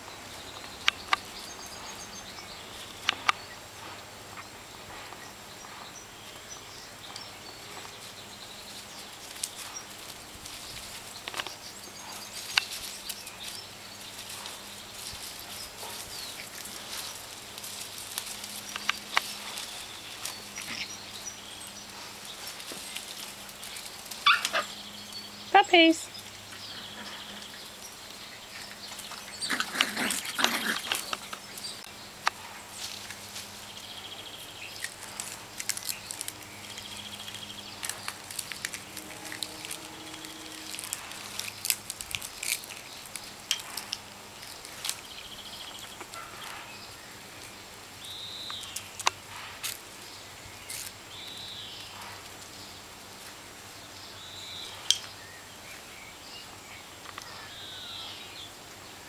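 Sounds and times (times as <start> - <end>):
puppies scuffling on grass: 0.0 - 58.7.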